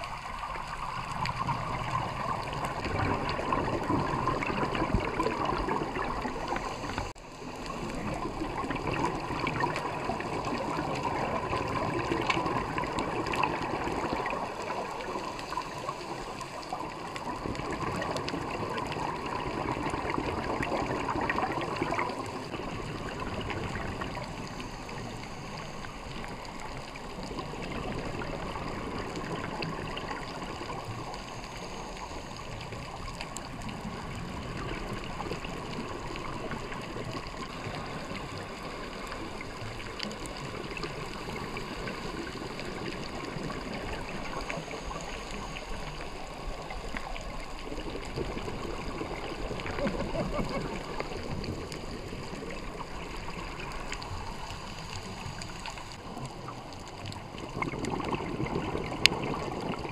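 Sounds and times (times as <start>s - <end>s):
underwater bubbles gurgling: 0.0s - 59.9s.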